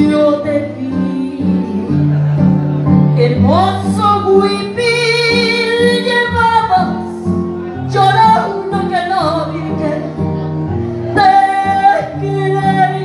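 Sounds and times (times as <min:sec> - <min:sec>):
woman singing into microphone: 0:00.0 - 0:02.1, 0:03.2 - 0:10.3, 0:11.1 - 0:13.0
karaoke backing track: 0:00.0 - 0:13.0.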